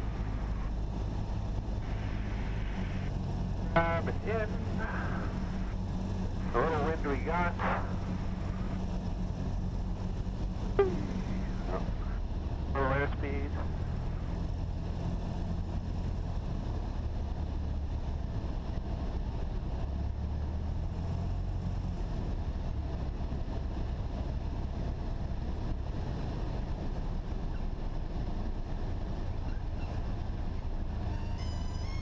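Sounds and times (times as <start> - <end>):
airplane engine and propeller droning: 0.0 - 32.0.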